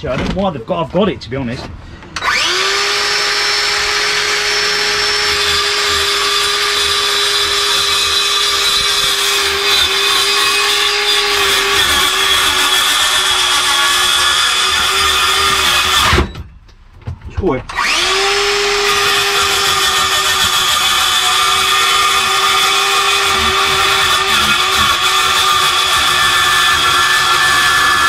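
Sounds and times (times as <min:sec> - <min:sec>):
jigsaw cutting wood: 0:02.2 - 0:16.3, 0:17.7 - 0:28.0.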